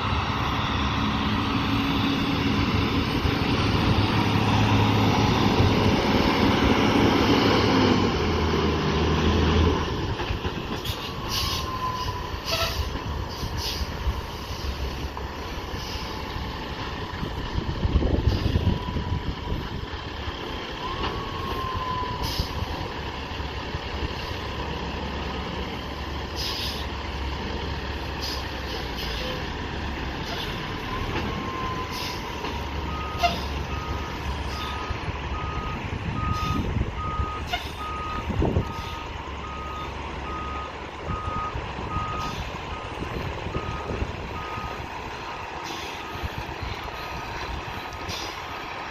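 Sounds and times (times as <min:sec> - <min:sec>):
heavy diesel equipment running: 0:00.0 - 0:48.9.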